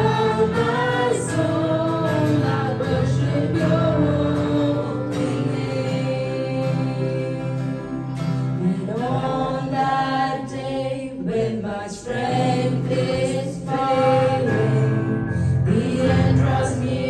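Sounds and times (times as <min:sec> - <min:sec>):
acoustic guitar: 0:00.0 - 0:17.0
keyboard: 0:00.0 - 0:17.0
voices singing together: 0:00.0 - 0:17.0.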